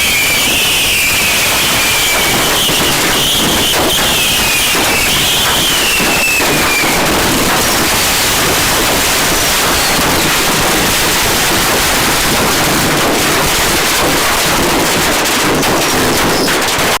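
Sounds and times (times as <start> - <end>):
faint firework whistles: 0.0 - 14.6, 16.0 - 16.7
firework hissing and crackling: 0.0 - 17.0.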